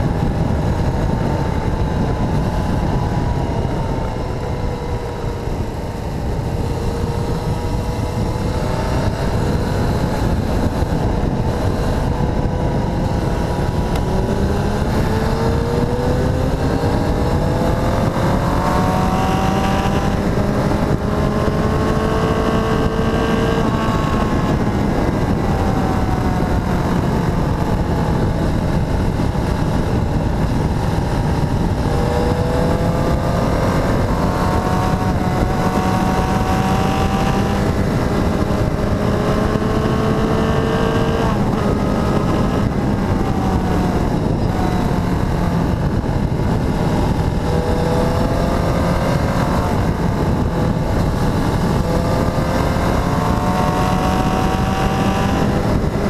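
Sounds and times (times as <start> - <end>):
motorcycle engine: 0.0 - 56.0
wind rush on microphone: 0.0 - 56.0.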